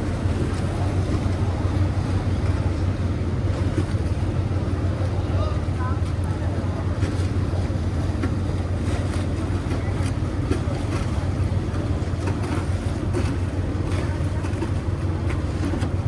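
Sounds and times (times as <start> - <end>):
motorboat engines droning: 0.0 - 16.0
water washing: 0.0 - 16.0.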